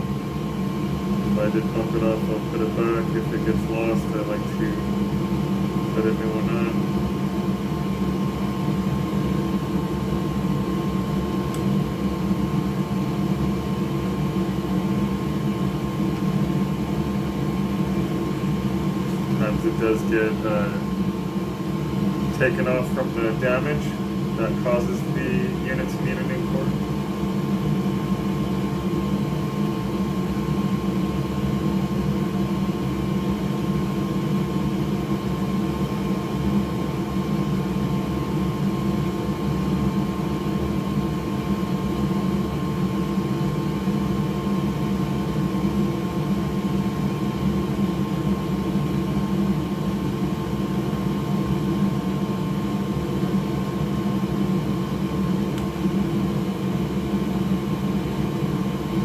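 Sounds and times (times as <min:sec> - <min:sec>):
electric fan motor whirring: 0:00.0 - 0:59.0.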